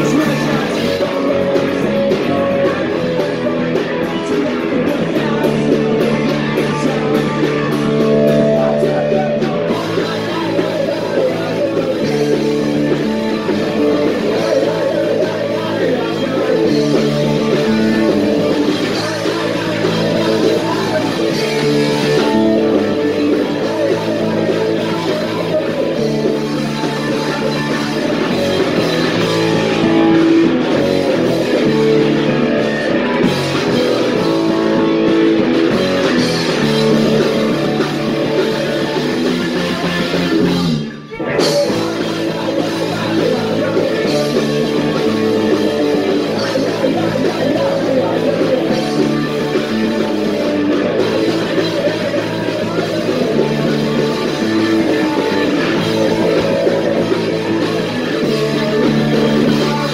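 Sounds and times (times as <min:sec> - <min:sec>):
person singing: 0:00.0 - 0:59.9
punk rock band playing live: 0:00.0 - 0:59.9.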